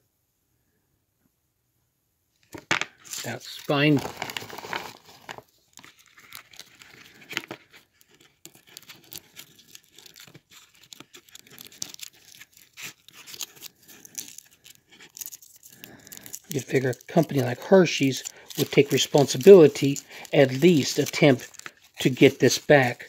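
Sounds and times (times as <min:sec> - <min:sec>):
foil wrapper crinkling and tearing: 0:03.0 - 0:23.0.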